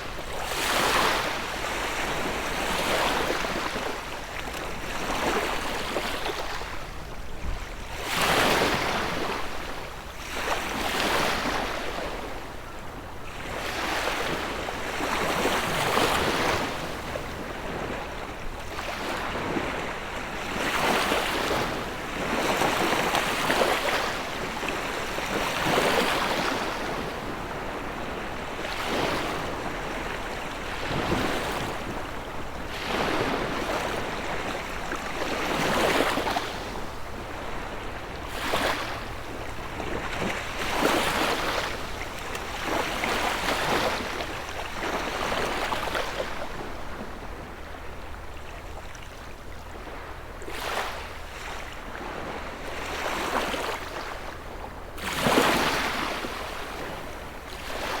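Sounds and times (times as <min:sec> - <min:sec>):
small sea waves breaking: 0:00.0 - 0:06.8, 0:13.3 - 0:58.0.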